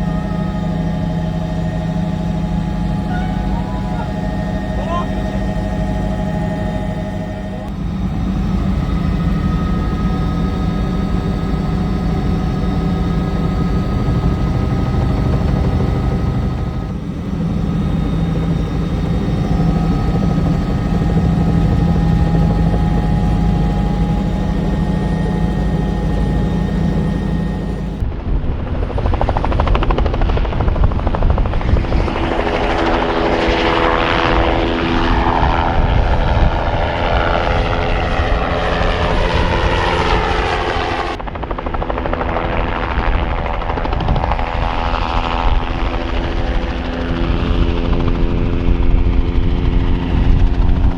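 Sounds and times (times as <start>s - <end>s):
helicopter turbine and rotor: 0.0s - 50.9s.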